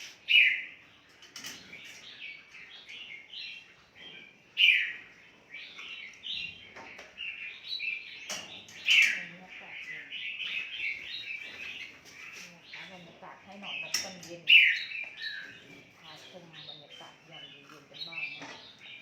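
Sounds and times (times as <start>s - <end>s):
caged birds chirping: 0.0s - 19.0s
loud sharp bird calls: 0.0s - 19.0s.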